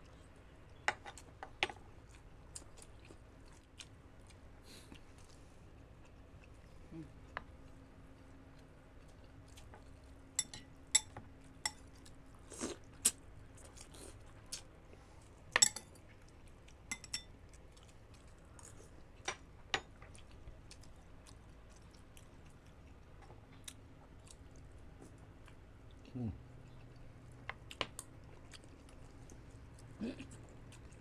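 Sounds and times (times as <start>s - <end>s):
chewing and mouth sounds: 0.0s - 31.0s.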